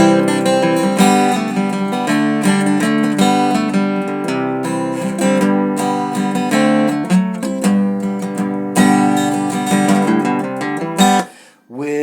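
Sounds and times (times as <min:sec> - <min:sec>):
acoustic guitar strumming chords: 0:00.0 - 0:11.4.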